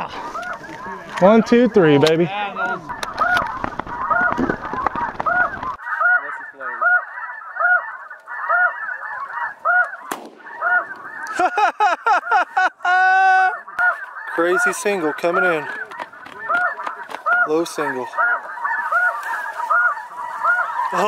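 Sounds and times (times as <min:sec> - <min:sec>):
geese yelping honks: 0:00.0 - 0:21.0.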